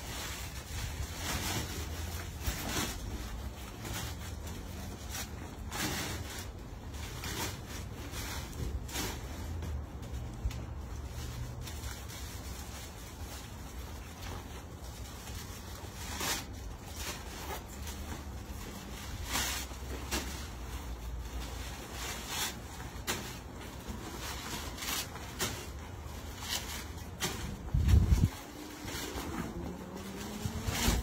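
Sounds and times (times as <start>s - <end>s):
clothing and packaging rustling: 0.0s - 31.0s.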